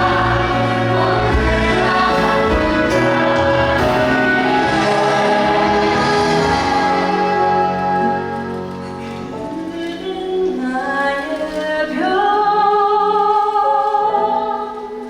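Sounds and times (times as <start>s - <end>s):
musical cast singing: 0.0s - 15.0s.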